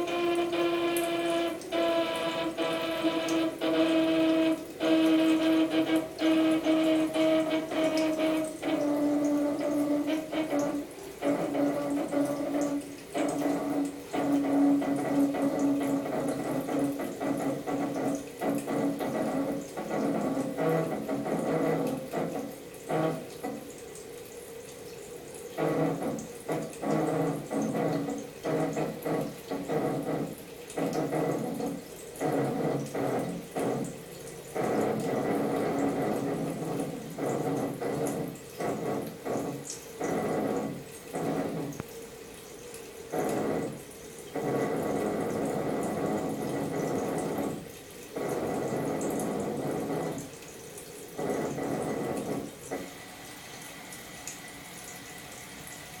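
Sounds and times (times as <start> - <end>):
toilet pipes moaning drone: 0.0 - 56.0
toilet water rushing: 0.0 - 56.0.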